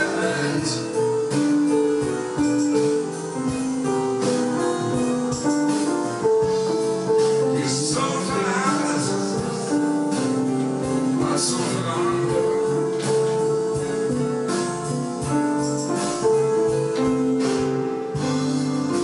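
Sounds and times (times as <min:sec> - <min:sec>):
electronic keyboards playing: 0:00.0 - 0:19.0.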